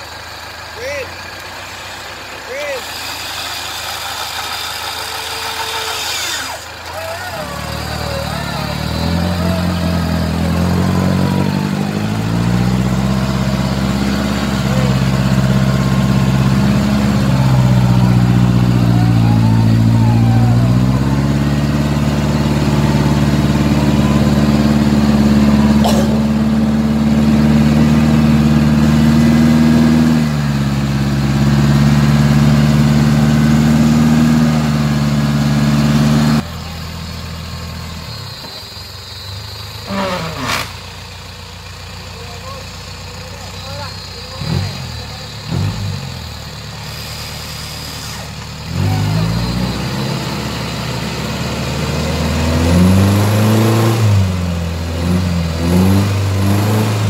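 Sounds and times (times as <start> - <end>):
off-road engine revving under load: 0.0 - 57.0.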